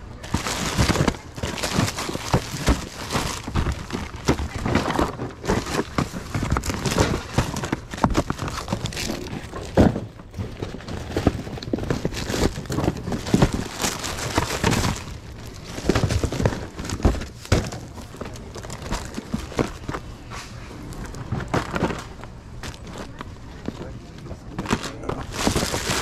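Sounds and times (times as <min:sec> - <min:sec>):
plastic packaging crinkling: 0:00.0 - 0:20.1, 0:20.9 - 0:26.0
cardboard boxes knocking and sliding: 0:00.2 - 0:23.8, 0:24.6 - 0:26.0.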